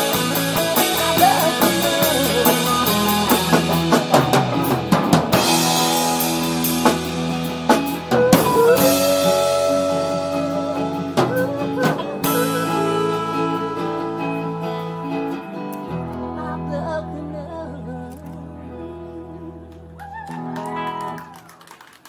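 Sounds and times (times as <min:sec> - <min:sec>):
live rock band playing: 0:00.0 - 0:21.6.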